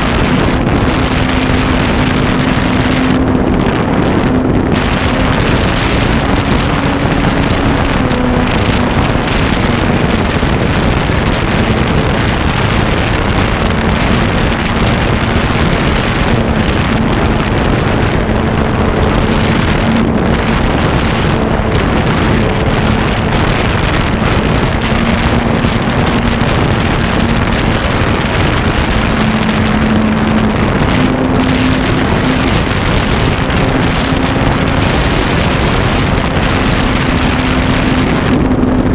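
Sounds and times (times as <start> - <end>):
model airplane motor humming: 0.0 - 38.9
wind rushing across microphone: 0.0 - 38.9.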